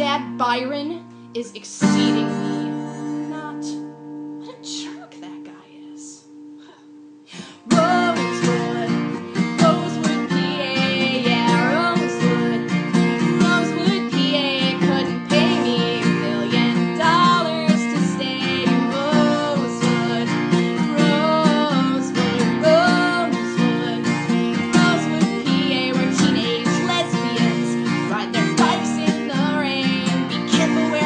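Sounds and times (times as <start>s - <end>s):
strummed acoustic guitar: 0.0s - 31.0s.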